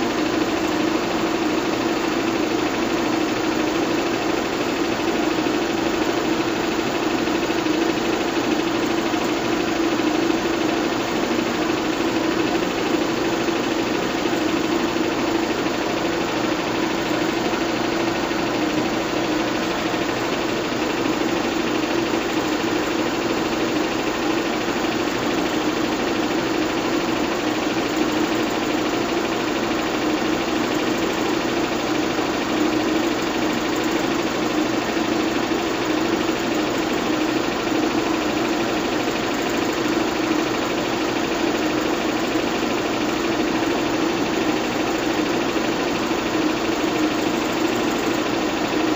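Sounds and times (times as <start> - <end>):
film projector whirring: 0.0 - 48.9.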